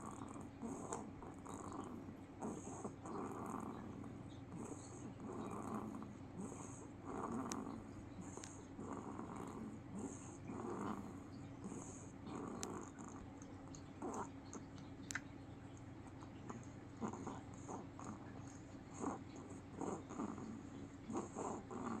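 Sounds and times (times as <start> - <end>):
soft snoring: 0.0 - 13.4, 16.3 - 22.0
steady low hum: 0.0 - 22.0.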